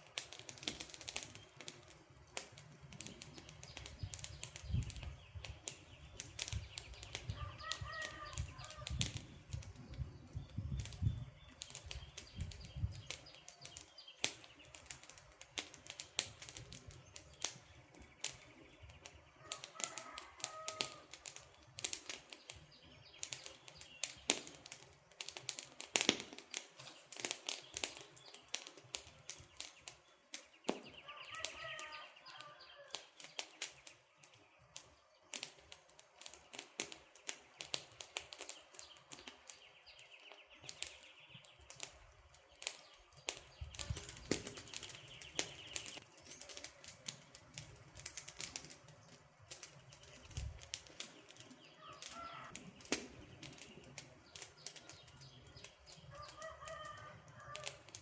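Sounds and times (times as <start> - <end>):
campfire crackling and popping: 0.0 - 58.0
birds chirping: 1.0 - 15.2, 15.8 - 25.6, 26.4 - 35.8, 36.6 - 57.9.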